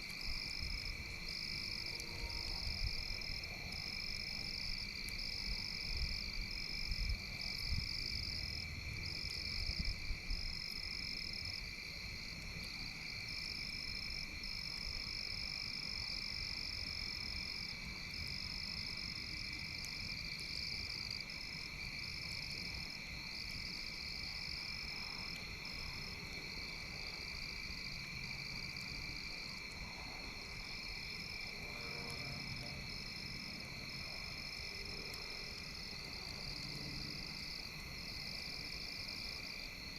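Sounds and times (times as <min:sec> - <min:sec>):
frogs and insects trilling: 0:00.1 - 0:39.9.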